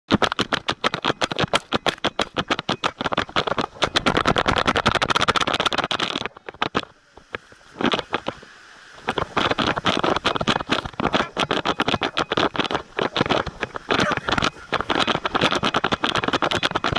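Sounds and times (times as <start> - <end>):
rattling and scraping clicks: 0.1 - 8.4, 9.0 - 16.9.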